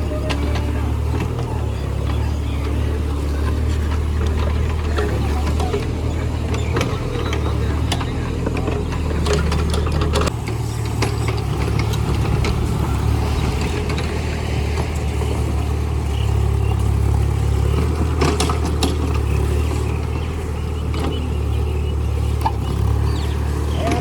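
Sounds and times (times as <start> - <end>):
digger engine running: 0.0 - 24.0.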